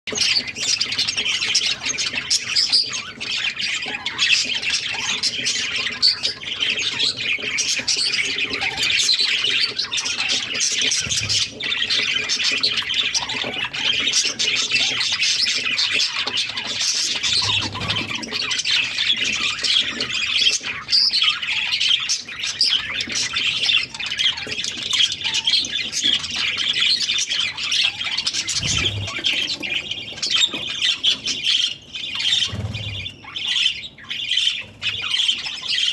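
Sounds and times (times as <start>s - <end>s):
budgerigars chattering and squawking: 0.1s - 35.9s.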